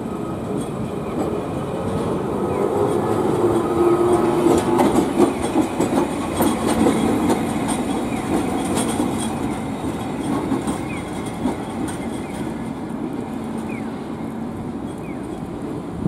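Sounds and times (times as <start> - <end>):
steel wheels rolling on rails: 0.0 - 16.0
tram hum: 0.0 - 16.0.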